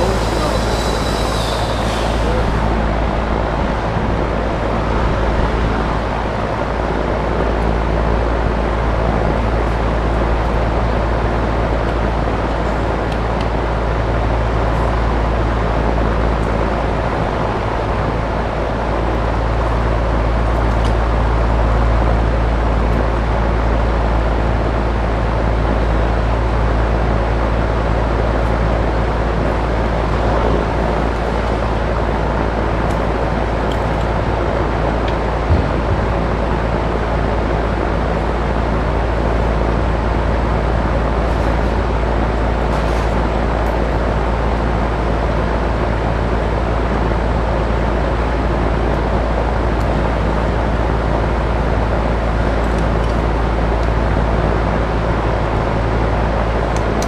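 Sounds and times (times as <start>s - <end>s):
loud steady rumbling: 0.0s - 57.0s.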